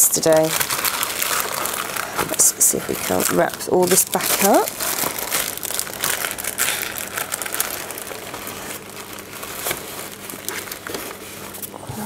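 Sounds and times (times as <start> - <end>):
canvas sheet rustling and crinkling: 0.1 - 11.7.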